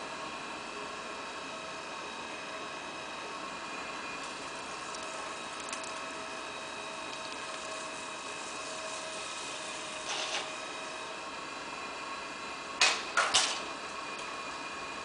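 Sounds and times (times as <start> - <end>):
potter's wheel motor hum: 0.0 - 15.0.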